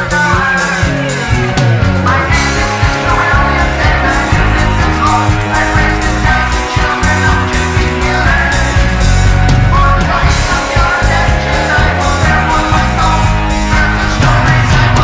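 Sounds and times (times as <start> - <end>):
loud rock band music: 0.0 - 15.0.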